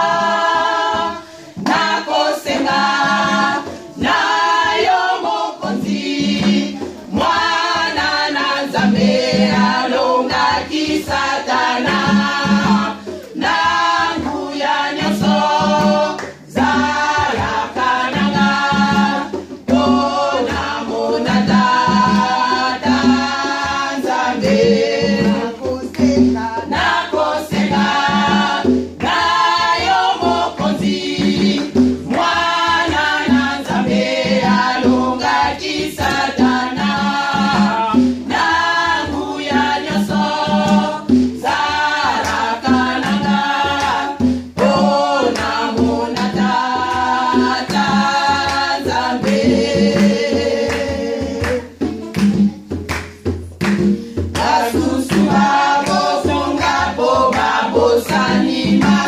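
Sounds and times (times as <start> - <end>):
women's choir singing gospel: 0.0 - 59.0.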